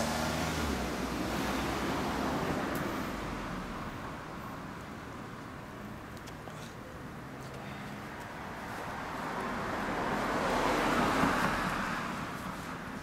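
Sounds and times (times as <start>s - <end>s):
road vehicle passing: 0.0s - 6.0s, 7.3s - 13.0s.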